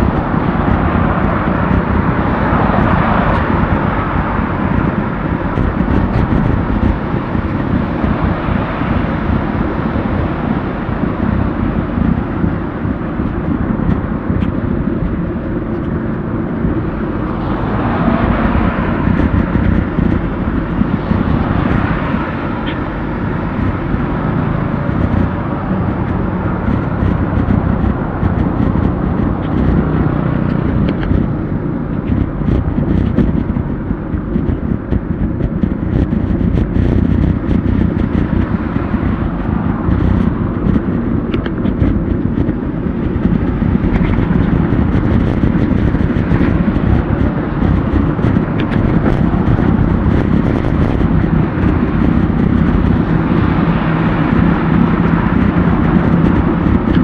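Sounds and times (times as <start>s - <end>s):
road and wind rumble: 0.0s - 57.0s
vehicles passing: 0.0s - 57.0s.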